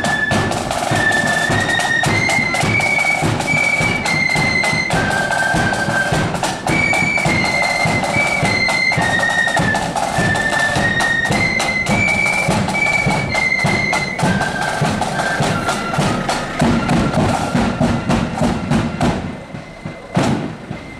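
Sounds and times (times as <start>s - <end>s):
flutes playing melody: 0.0s - 20.9s
marching drums beat: 0.0s - 20.9s.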